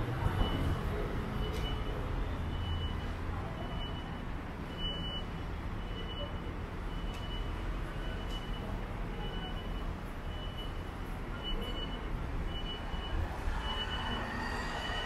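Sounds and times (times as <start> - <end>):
road traffic rumble: 0.0 - 15.0
electronic warning beeps: 0.3 - 15.0.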